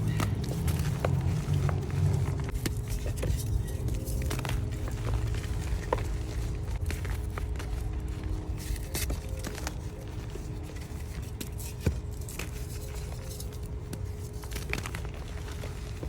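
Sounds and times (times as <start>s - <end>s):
chalk crunching: 0.0s - 16.0s.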